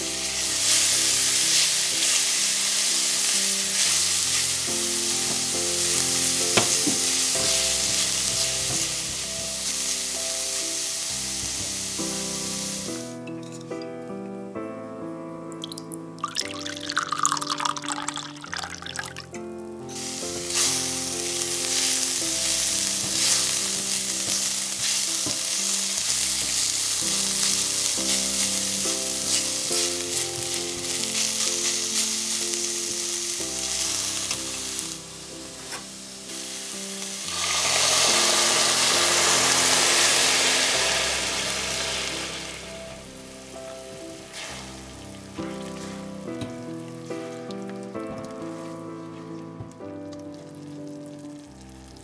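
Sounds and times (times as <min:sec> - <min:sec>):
mushrooms sizzling in oil: 0:00.0 - 0:13.2, 0:20.0 - 0:52.0
wine hissing in hot pan: 0:00.0 - 0:13.2, 0:15.7 - 0:19.2, 0:20.0 - 0:47.3.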